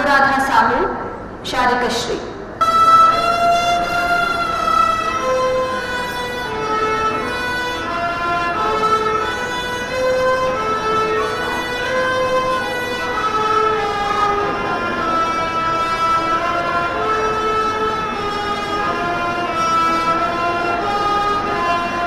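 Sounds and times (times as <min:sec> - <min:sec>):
violins playing slow melody: 0:02.6 - 0:22.0.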